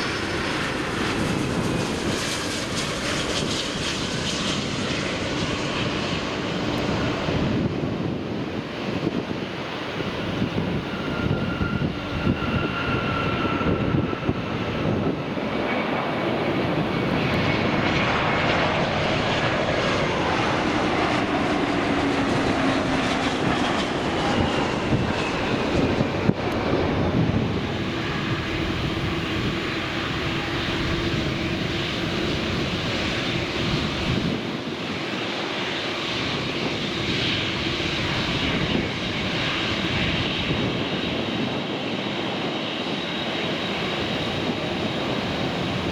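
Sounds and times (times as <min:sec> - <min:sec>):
jet airliner engines roaring: 0:00.0 - 0:45.9.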